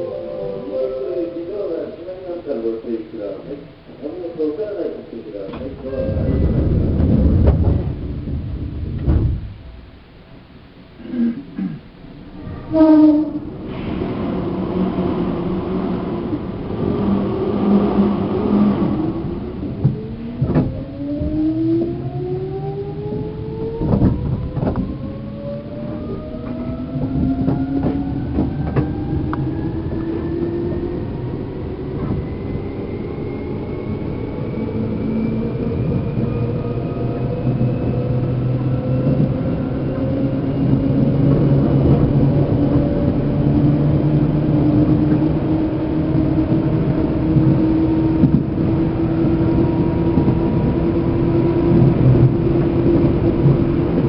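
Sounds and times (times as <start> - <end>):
train wheel rumble: 0.0 - 54.0.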